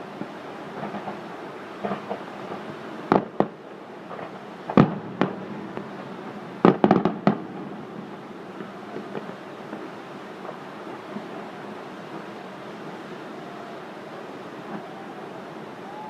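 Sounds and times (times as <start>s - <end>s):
steady background hiss: 0.0s - 16.0s
fireworks bangs: 0.2s - 16.0s.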